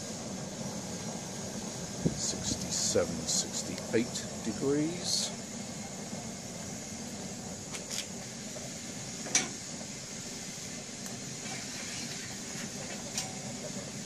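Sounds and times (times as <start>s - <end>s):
stove fan rushing: 0.0s - 14.0s.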